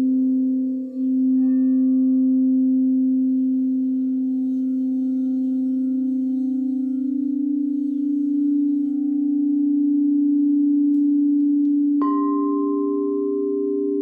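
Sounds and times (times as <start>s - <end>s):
higher singing bowl tone: 0.0s - 14.0s
singing bowl ringing: 0.0s - 14.0s.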